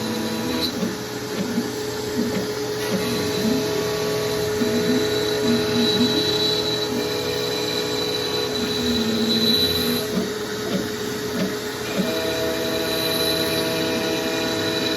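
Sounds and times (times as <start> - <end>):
router bit grinding wood: 0.0 - 14.9
spindle whine: 0.0 - 14.9.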